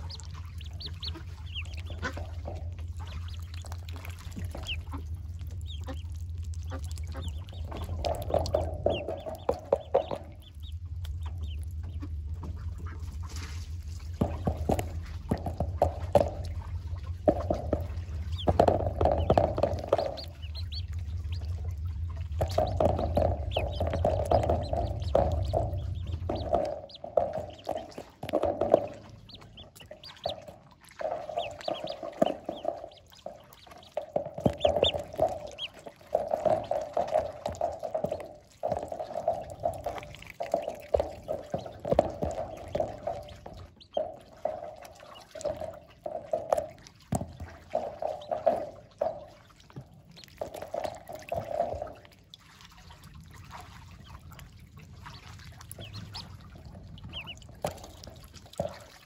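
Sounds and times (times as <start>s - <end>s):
ducklings chattering: 0.0s - 13.6s, 14.2s - 49.5s, 55.0s - 58.8s
high duckling peeps: 0.0s - 13.6s, 15.3s - 49.5s, 55.0s - 58.8s
water trickling and splashing: 0.0s - 59.0s.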